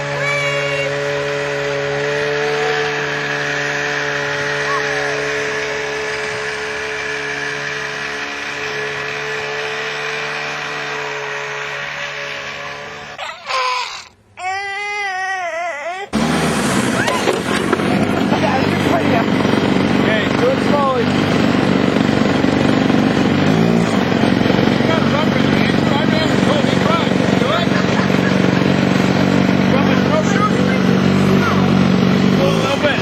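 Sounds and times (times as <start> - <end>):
snowmobile engine idling: 0.0 - 13.1, 16.2 - 33.0.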